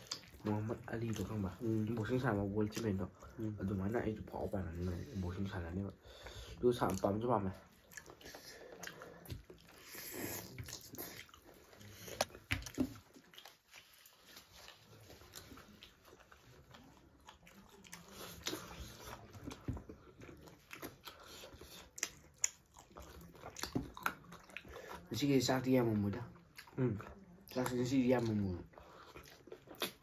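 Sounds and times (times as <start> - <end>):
biting and chewing food: 0.0 - 30.0.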